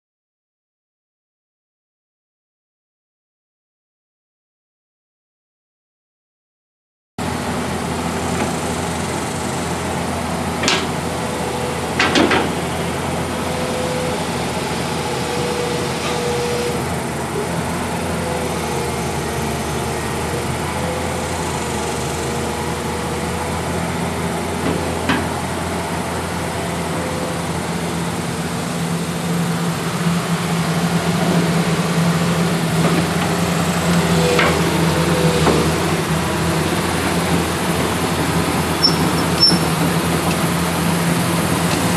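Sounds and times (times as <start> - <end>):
excavator diesel engine running: 7.2 - 41.9.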